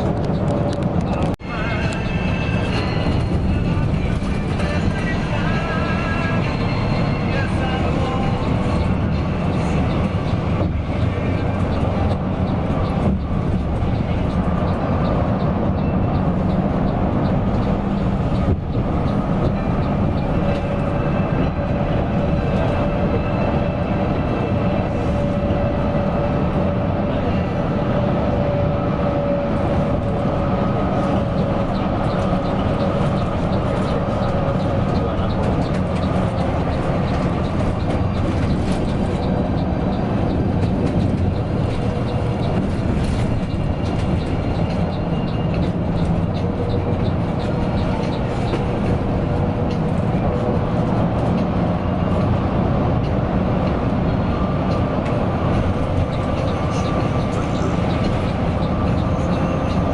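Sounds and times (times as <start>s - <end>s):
coach engine drone: 0.0s - 59.9s
road rumble: 0.0s - 59.9s.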